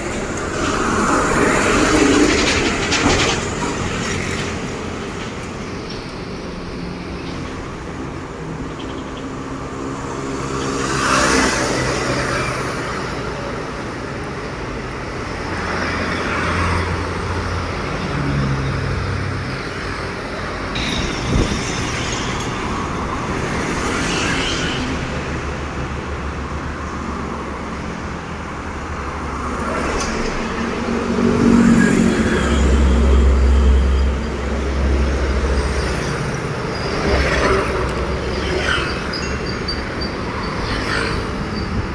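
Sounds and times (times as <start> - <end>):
vehicles passing by: 0.0 - 41.9.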